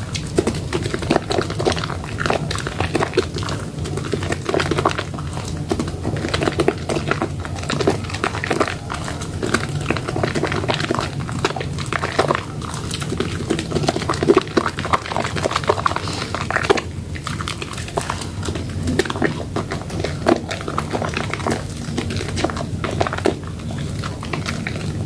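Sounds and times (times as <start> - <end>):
wet soap lather squishing: 0.0 - 25.0.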